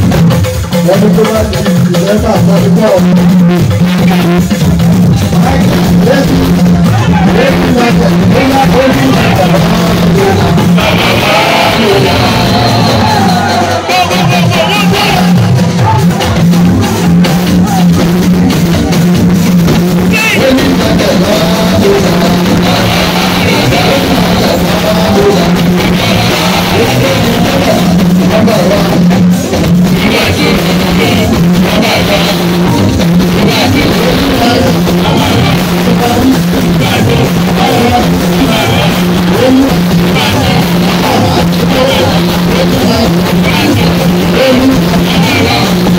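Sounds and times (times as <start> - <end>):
music with pulsing beat: 0.0 - 45.9
person singing: 0.0 - 45.9.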